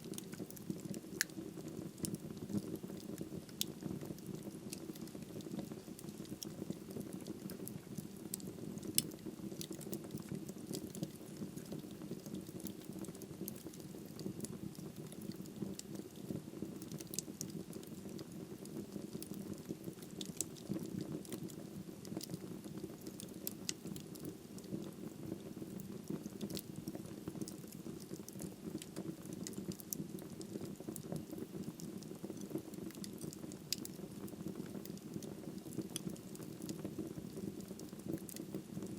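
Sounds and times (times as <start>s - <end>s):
burning wood crackling and popping: 0.0s - 38.9s.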